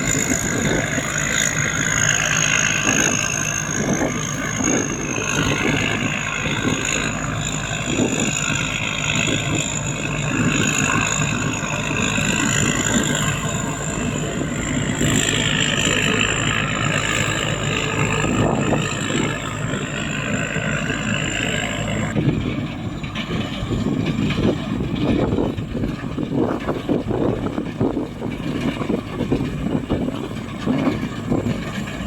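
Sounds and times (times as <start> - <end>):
combine harvester drone: 0.0 - 32.0
steady high whine: 0.0 - 32.0.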